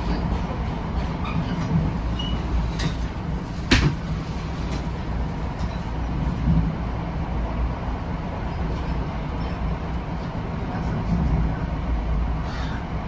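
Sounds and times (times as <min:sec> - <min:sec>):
train car rumbling on rails: 0:00.0 - 0:13.0.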